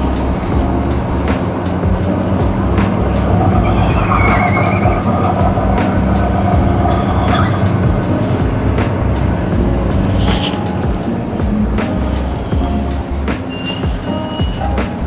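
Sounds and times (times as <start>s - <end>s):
faint squeaks: 0.0s - 15.0s
truck diesel engine running: 0.0s - 15.0s.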